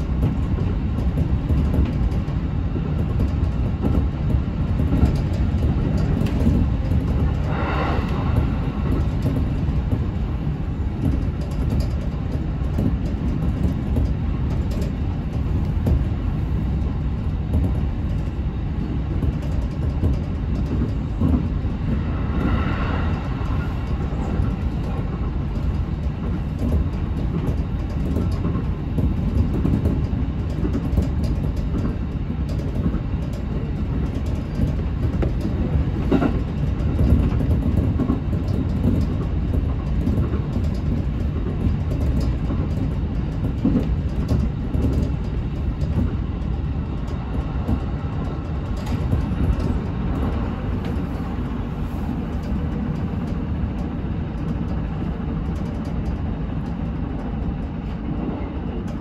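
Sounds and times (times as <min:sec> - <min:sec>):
rail joint clicks: 0:00.0 - 0:59.0
train wheels rumbling on rail: 0:00.0 - 0:59.0.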